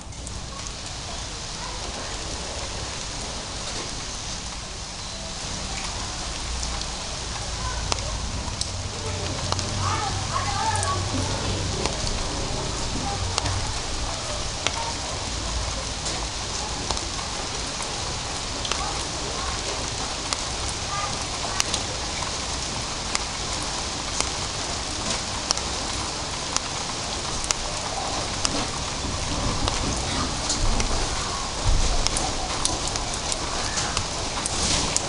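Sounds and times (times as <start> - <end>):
light rain hissing: 0.0 - 35.0
raindrops hitting hard surfaces: 0.0 - 35.0.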